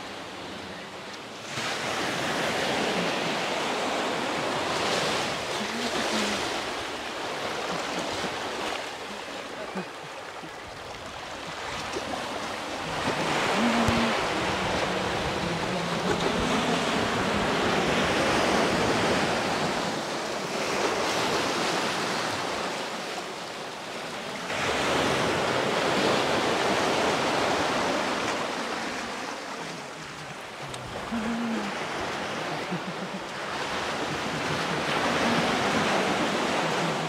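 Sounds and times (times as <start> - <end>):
sea surf washing up beach: 0.0 - 37.0.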